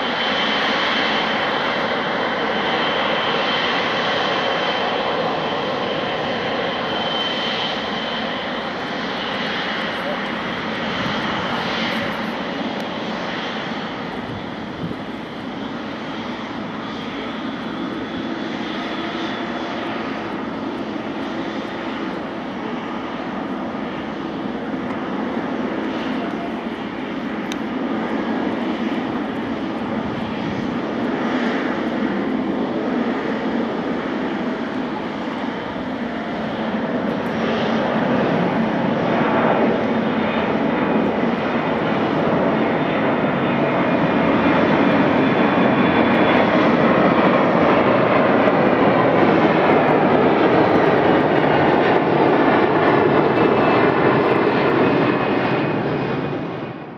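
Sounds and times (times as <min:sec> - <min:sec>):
jet engines running: 0:00.0 - 0:56.9.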